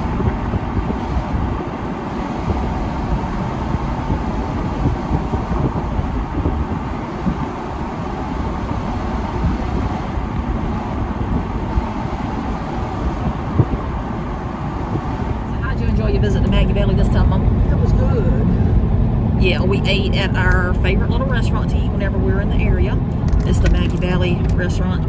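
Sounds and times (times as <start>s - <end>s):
car road noise rumble: 0.0s - 25.0s
rushing wind: 0.0s - 25.0s.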